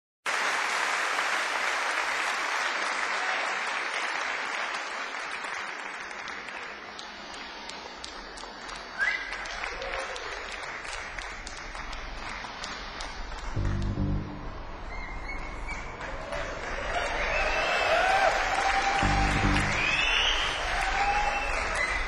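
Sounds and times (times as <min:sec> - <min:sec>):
audience applause: 0:00.3 - 0:14.9, 0:15.8 - 0:22.0.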